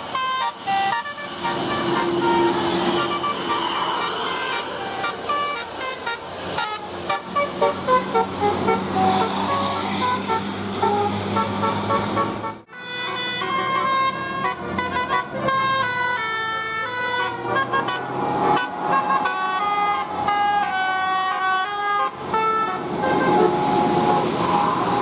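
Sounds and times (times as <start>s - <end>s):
multi-tone musical air horn: 0.0s - 25.0s.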